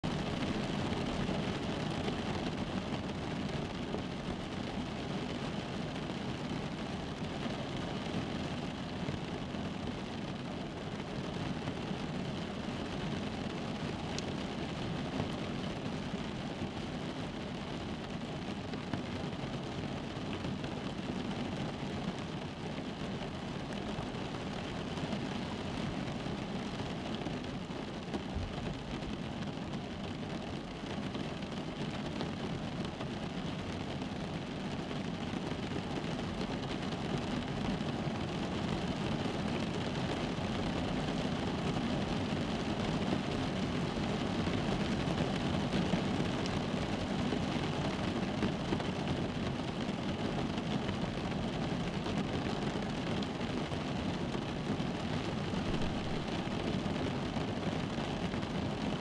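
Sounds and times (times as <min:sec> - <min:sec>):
rain on a car roof: 0:00.0 - 0:59.0.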